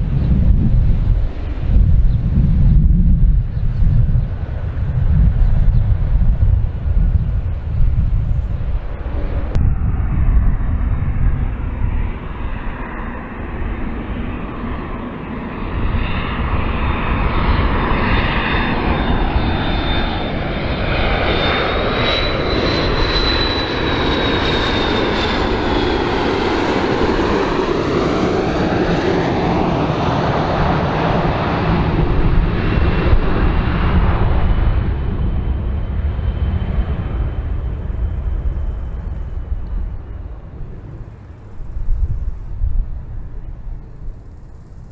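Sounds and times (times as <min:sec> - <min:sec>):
high turbofan whine: 0:00.0 - 0:44.9
jet airliner rumble: 0:00.0 - 0:44.9.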